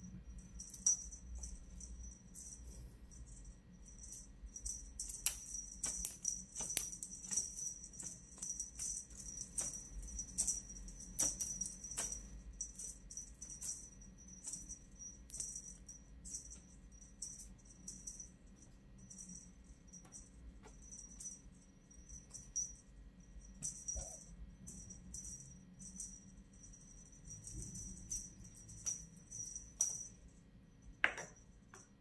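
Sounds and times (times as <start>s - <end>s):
small bells jingling: 0.0s - 32.0s.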